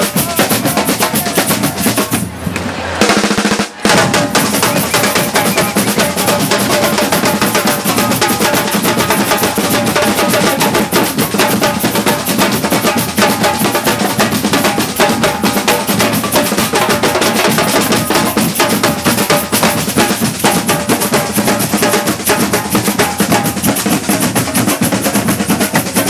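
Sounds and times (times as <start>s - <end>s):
bass drums: 0.0s - 26.0s
snare drums: 0.0s - 26.0s.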